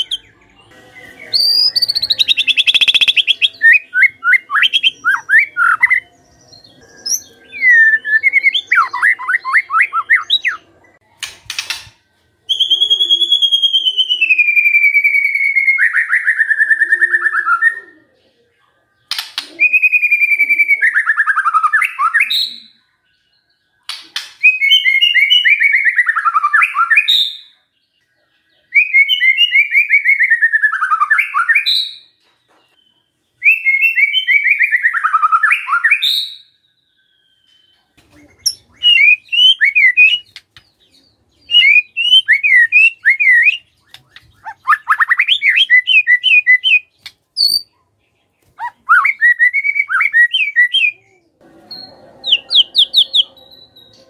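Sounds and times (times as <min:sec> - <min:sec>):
bird singing trills: 0:00.0 - 0:11.9, 0:12.5 - 0:54.0.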